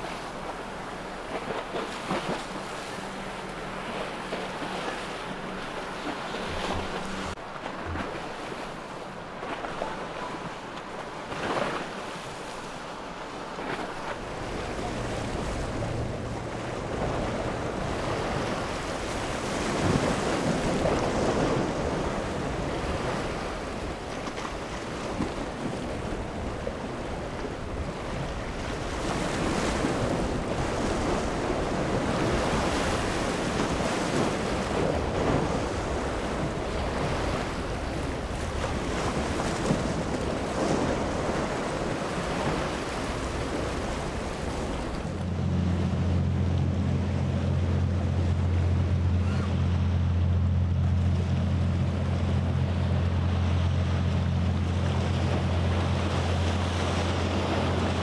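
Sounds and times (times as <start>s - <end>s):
water rushing and splashing: 0.0s - 58.0s.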